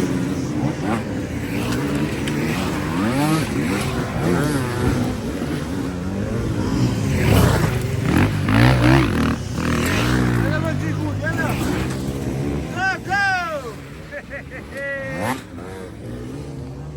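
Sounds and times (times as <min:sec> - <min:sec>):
dirt bike engines revving: 0:00.0 - 0:16.9.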